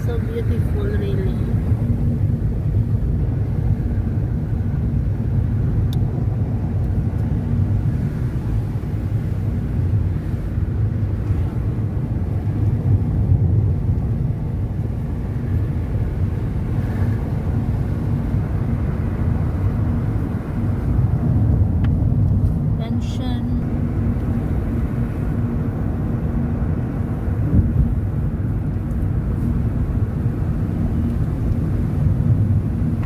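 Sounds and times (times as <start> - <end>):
car engine rumble: 0.0 - 33.0
road noise: 0.0 - 33.0.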